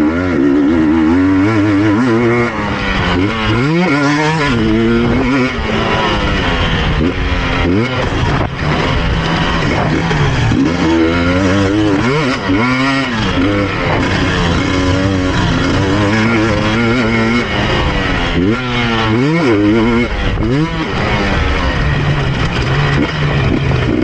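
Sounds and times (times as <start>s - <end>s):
two-stroke motorcycle engine revving: 0.0s - 24.0s.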